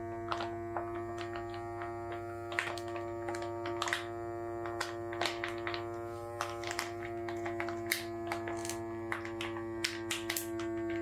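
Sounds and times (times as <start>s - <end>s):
handheld vacuum pump humming: 0.0s - 11.0s.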